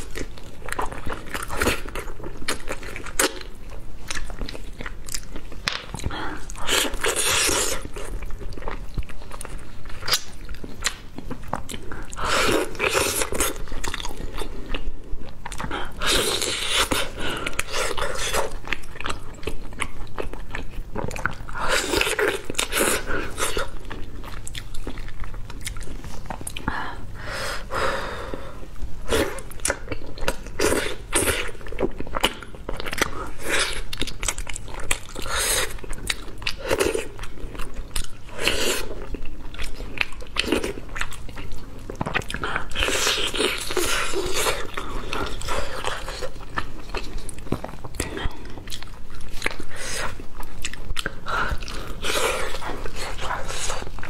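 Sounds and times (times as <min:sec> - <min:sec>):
biting and chewing with smacking: 0:00.0 - 0:26.8, 0:28.8 - 0:54.0.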